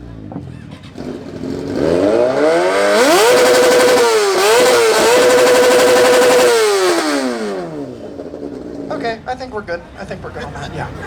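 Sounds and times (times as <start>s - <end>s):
vehicle engine revving: 0.0s - 9.4s.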